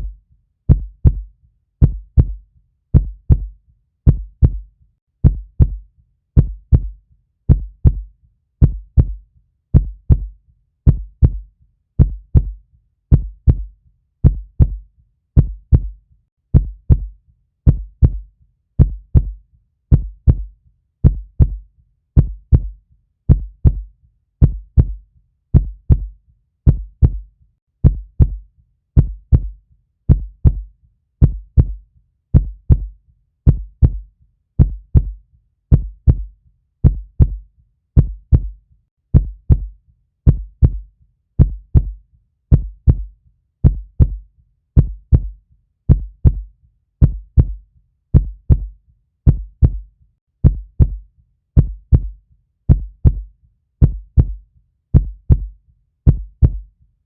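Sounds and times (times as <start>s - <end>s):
heartbeat thumps: 0.0s - 5.8s, 6.4s - 14.8s, 15.4s - 21.6s, 22.2s - 28.4s, 29.0s - 37.4s, 38.0s - 44.2s, 44.8s - 51.0s, 51.6s - 56.7s.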